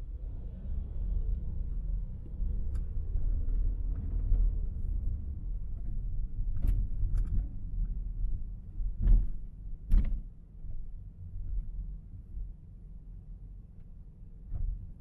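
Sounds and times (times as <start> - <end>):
car driving rumble: 0.0 - 12.5.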